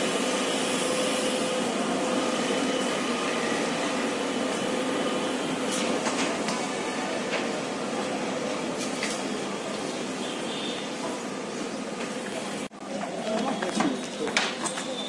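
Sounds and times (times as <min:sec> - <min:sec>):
faint whine of standing train: 0:00.0 - 0:15.0.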